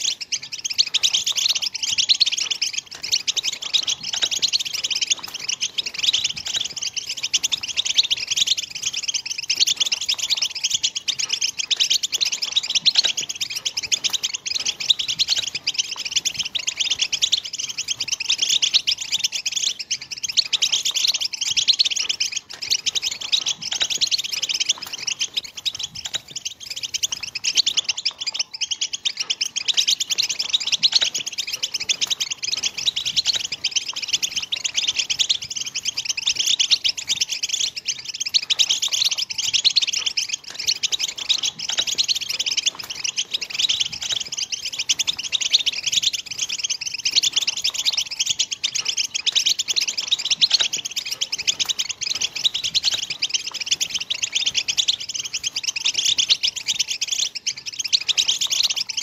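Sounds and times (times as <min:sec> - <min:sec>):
goldfinch twittering song: 0:00.0 - 0:59.0.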